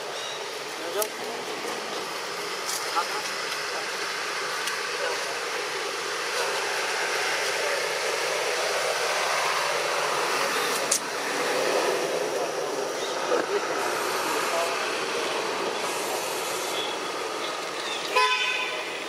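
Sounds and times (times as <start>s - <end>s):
steady rushing noise: 0.0s - 17.9s.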